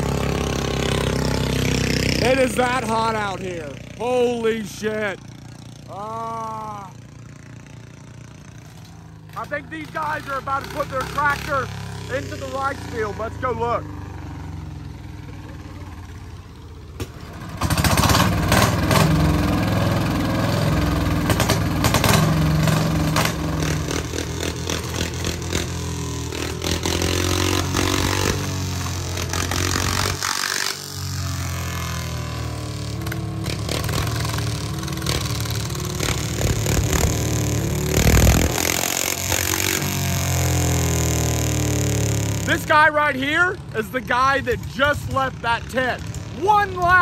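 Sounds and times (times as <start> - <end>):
tractor engine revving: 0.0 - 47.0.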